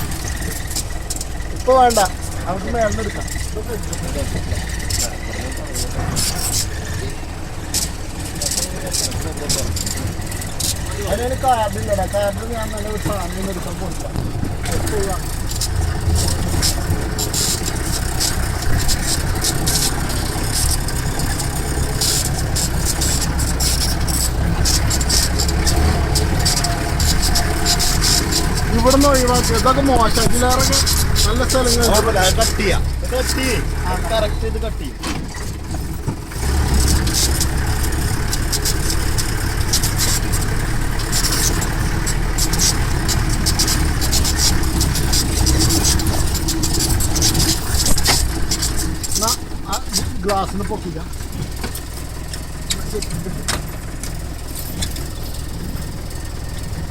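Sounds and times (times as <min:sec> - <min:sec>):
engine running with low rumble: 0:00.0 - 0:56.9
short sharp clicks and rattles: 0:00.0 - 0:56.9.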